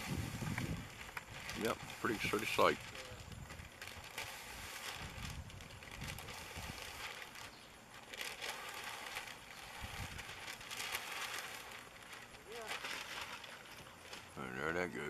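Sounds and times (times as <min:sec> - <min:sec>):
roofing membrane rustling and scuffing: 0:00.0 - 0:14.4.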